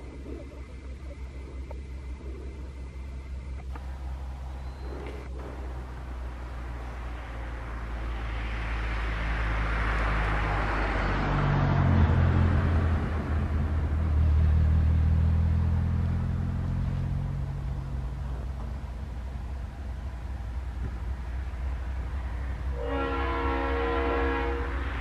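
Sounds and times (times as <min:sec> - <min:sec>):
locomotive engine drone: 0:00.0 - 0:25.0.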